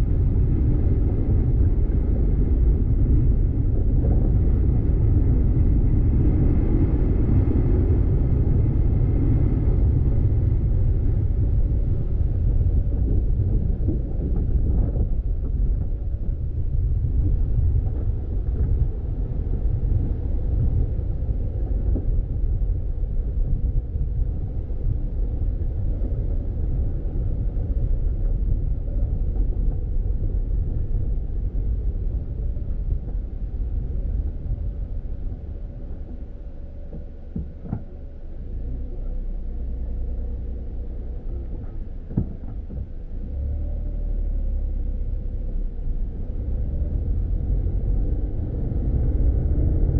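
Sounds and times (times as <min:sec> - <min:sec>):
car driving on dirt road: 0:00.0 - 0:49.9.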